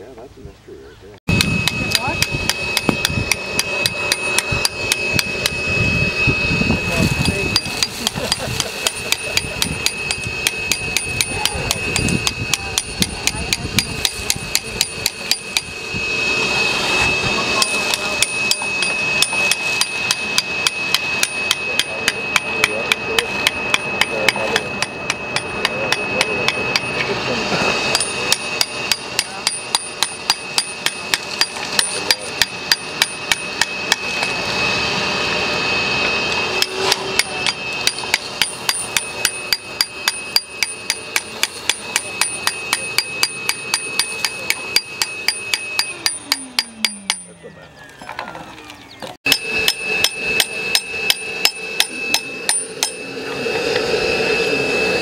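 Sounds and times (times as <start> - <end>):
hammer striking steel chisel: 1.3 - 5.7, 6.8 - 15.8, 17.6 - 34.4, 36.6 - 47.4, 49.2 - 53.1.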